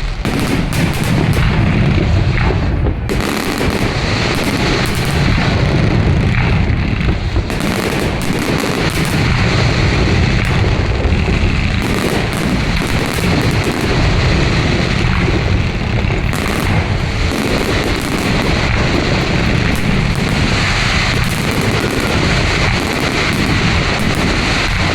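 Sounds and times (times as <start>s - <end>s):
fireworks booming and crackling: 0.0s - 24.9s.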